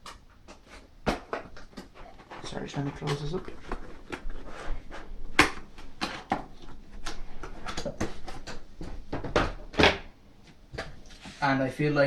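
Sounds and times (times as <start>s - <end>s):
rustling: 0.0s - 11.6s.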